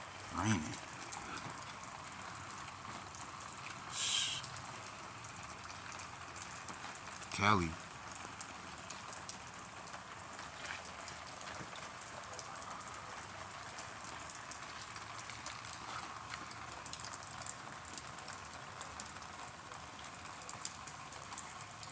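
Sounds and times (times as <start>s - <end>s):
raindrops ticking on surfaces: 0.0s - 21.9s
steady rain: 0.0s - 21.9s.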